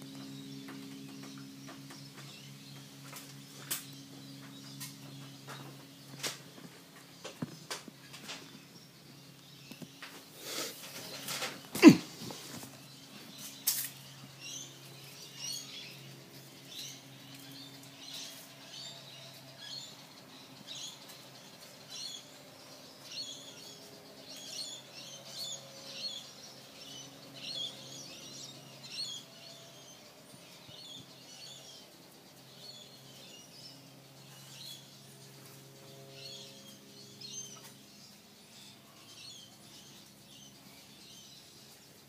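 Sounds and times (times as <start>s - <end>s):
birds chirping: 0.0s - 42.0s
steady low hum: 0.0s - 42.0s.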